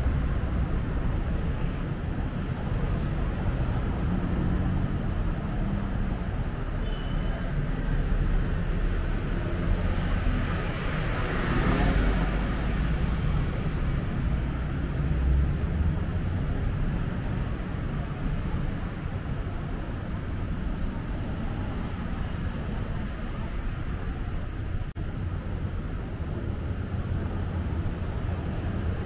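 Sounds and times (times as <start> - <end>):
rumble of traffic: 0.0 - 29.0.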